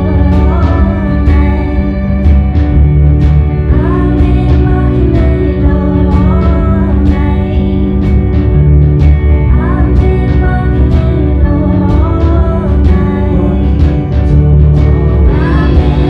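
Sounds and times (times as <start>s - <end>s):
woman singing: 0.0s - 2.5s, 3.6s - 8.2s, 9.4s - 16.0s
drums keeping a steady beat: 0.0s - 16.0s
electric bass: 0.0s - 16.0s
guitars: 0.0s - 16.0s
keyboard: 0.0s - 16.0s.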